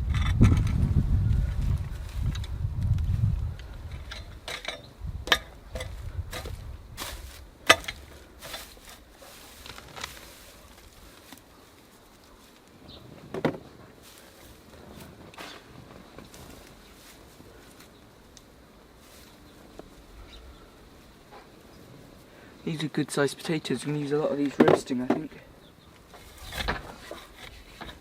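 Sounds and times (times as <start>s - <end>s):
digging in hard dry soil: 0.0s - 12.8s, 13.6s - 24.5s, 26.0s - 28.0s.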